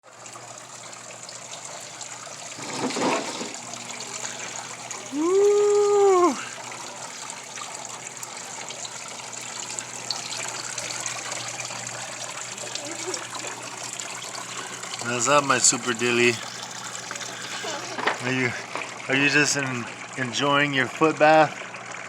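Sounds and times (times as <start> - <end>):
water trickling and pouring: 0.0 - 22.0.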